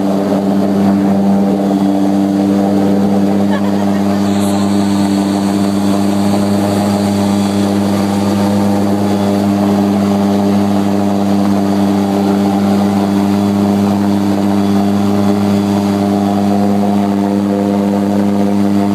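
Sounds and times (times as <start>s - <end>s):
propeller plane engine droning: 0.0s - 18.9s.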